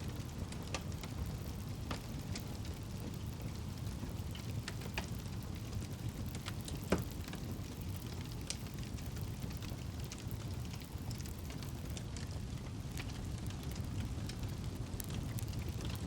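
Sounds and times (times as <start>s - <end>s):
campfire flames rumbling: 0.0s - 16.0s
fire crackling and popping: 0.0s - 16.0s.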